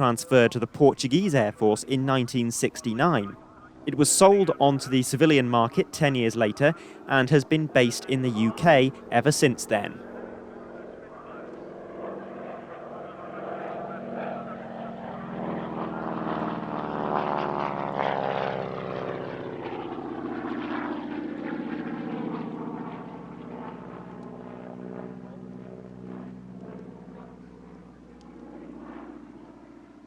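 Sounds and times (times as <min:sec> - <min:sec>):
propeller plane passing by: 0:00.0 - 0:30.0.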